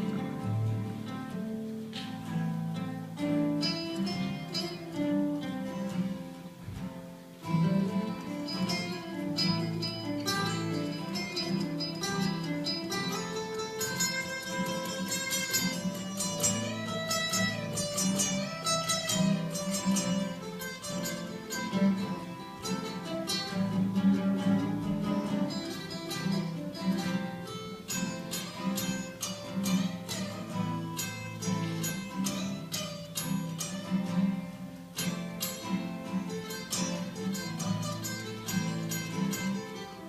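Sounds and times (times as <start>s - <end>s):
plucked acoustic guitar music: 0.0s - 40.0s.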